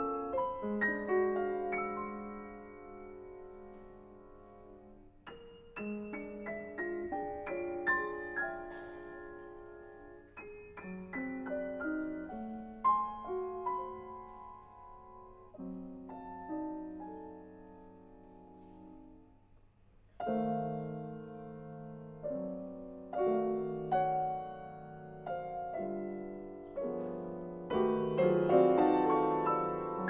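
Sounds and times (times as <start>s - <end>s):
slow solo piano chords: 0.0s - 30.0s.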